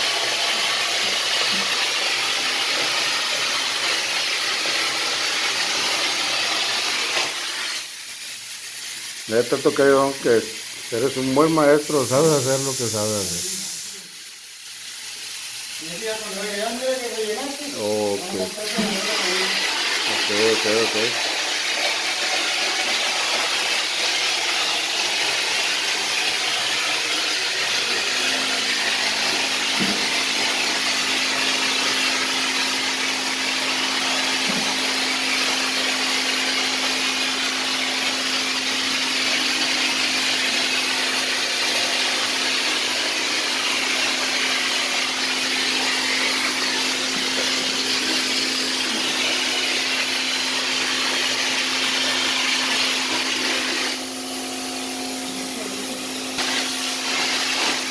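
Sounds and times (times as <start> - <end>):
machine high hiss: 0.0 - 57.9.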